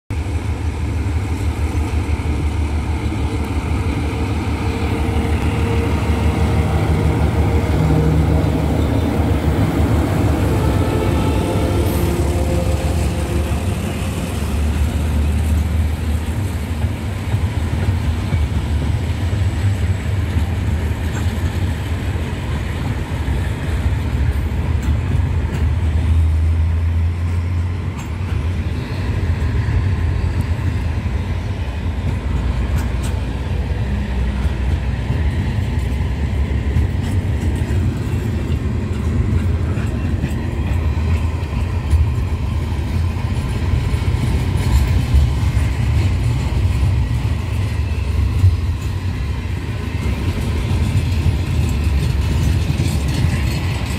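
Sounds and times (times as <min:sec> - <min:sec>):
diesel locomotive engines rumbling: 0:00.1 - 0:53.9
train wheels on rails: 0:00.1 - 0:53.9.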